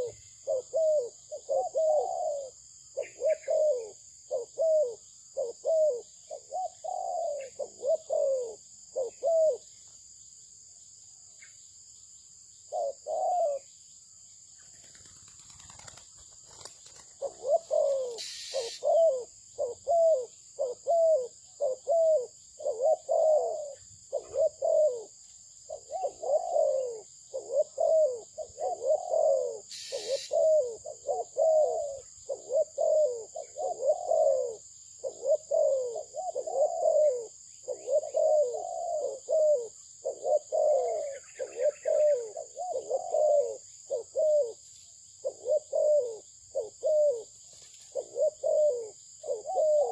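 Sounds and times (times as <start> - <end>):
dove cooing: 0.0 - 9.8, 12.7 - 13.7, 14.8 - 44.6, 45.2 - 49.9.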